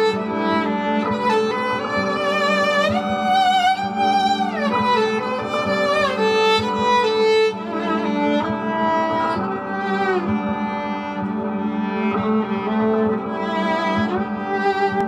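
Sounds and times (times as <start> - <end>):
bowed viola melody with slides: 0.0 - 15.0.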